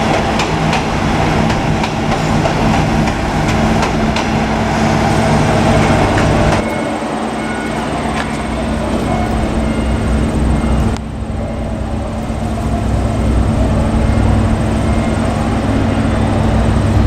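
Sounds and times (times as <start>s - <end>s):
rail noise: 0.0s - 17.0s
railcar diesel engine drone: 0.0s - 17.0s.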